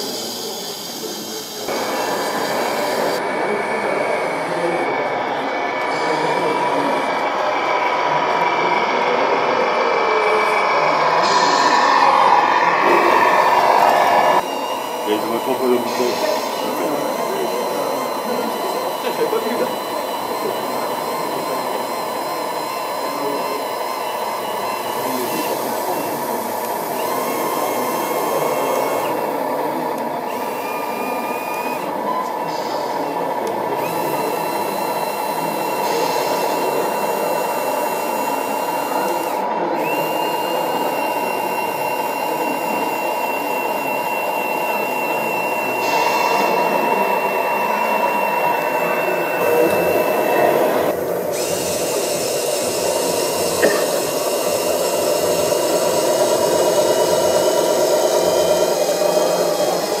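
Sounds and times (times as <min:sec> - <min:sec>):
electric hydraulic pump whine: 0:00.0 - 1:00.0
second motor sound: 0:00.0 - 1:00.0.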